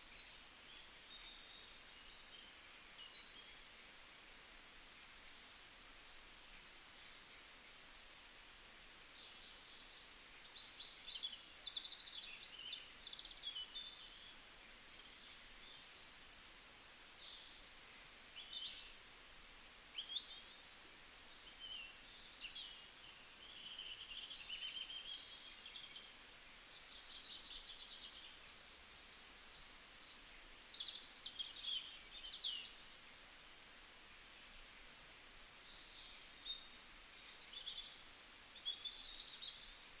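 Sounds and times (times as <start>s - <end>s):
faint steady hiss: 0.0s - 40.0s.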